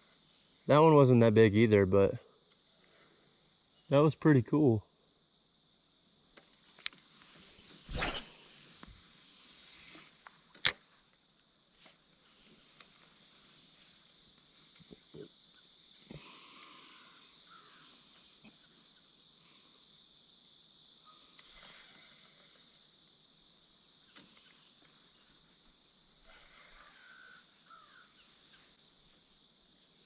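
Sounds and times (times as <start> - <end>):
insect chorus chirring: 0.0 - 30.0.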